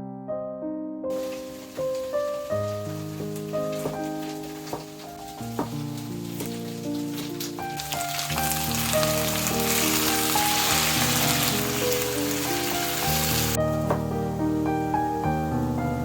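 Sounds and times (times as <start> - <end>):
piano music: 0.0 - 16.0
food sizzling in a pan: 1.1 - 14.2.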